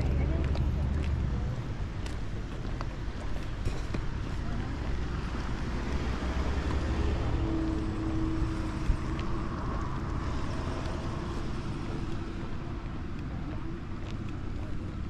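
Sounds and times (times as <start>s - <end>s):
cars passing on a road: 0.0s - 15.0s.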